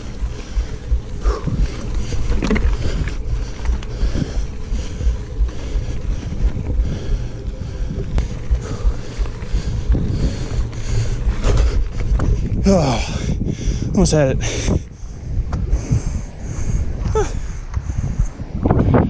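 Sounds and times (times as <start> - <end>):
bike rolling on dirt trail: 0.0 - 19.0
wind buffeting microphone: 0.0 - 19.0.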